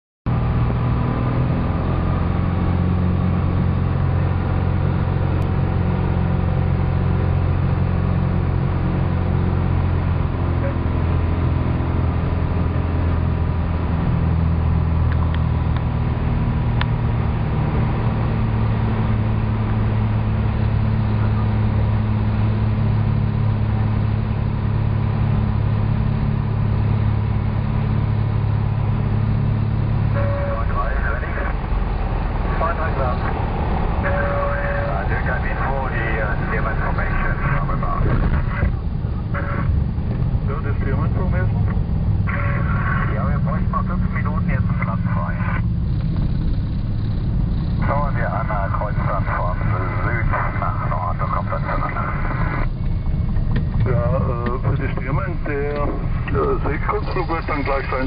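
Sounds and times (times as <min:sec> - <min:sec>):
light aircraft engine droning: 0:00.3 - 0:58.0.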